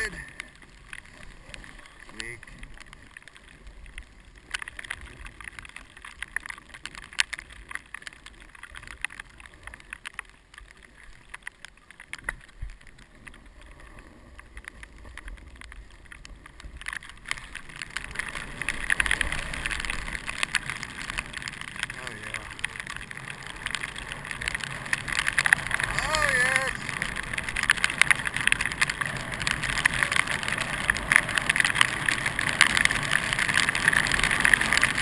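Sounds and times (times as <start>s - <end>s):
skis scraping over snow: 0.0s - 35.0s.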